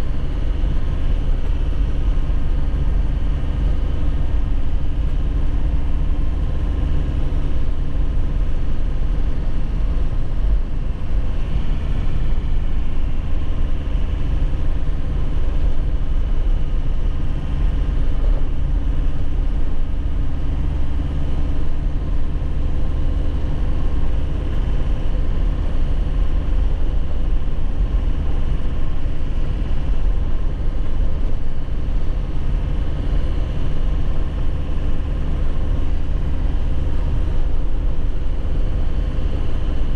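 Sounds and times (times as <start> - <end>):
diesel engine running: 0.0 - 39.9
road noise: 0.0 - 39.9.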